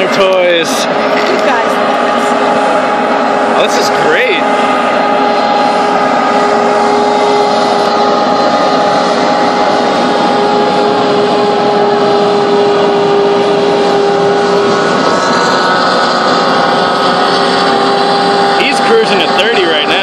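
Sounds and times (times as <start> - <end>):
hovercraft engine drone: 0.0 - 20.0.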